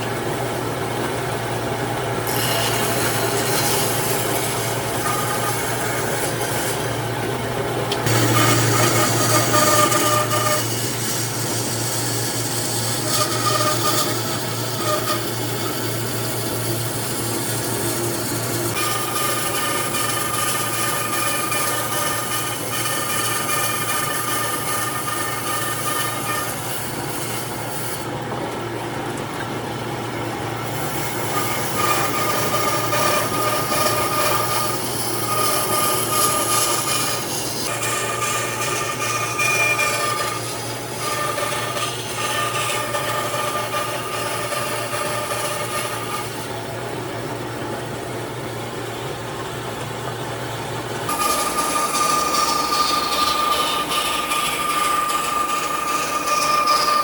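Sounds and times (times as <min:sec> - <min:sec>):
power tool high whine: 0:02.2 - 0:07.2, 0:08.0 - 0:27.7, 0:30.8 - 0:46.7, 0:51.1 - 0:57.0
power tool rasping on wood: 0:02.2 - 0:07.2, 0:08.0 - 0:28.0, 0:30.7 - 0:46.5, 0:51.1 - 0:57.0.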